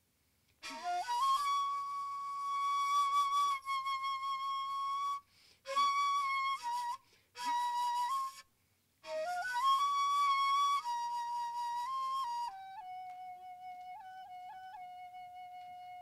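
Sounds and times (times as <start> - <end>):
bamboo flute playing long notes: 0.6 - 16.0.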